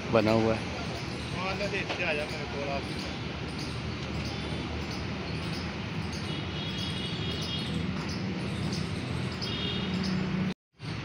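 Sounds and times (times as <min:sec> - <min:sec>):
high chirping trill: 0:00.2 - 0:10.3.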